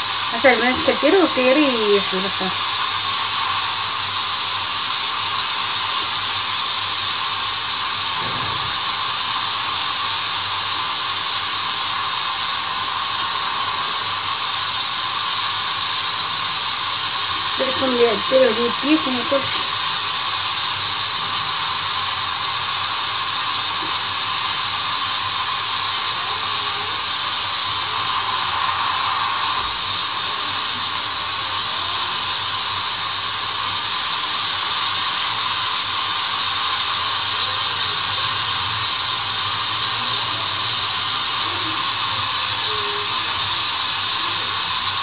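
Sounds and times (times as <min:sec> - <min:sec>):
steady loud hiss: 0:00.0 - 0:45.0.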